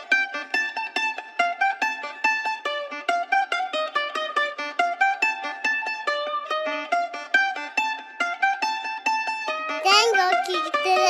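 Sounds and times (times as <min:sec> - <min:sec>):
plucked-string melody: 0:00.0 - 0:11.0.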